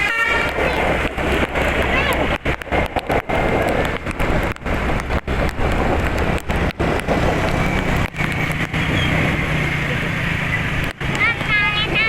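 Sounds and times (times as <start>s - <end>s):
low engine hum: 0.0s - 12.0s
road traffic noise: 0.0s - 12.0s
wind and rain buffeting microphone: 0.0s - 12.0s.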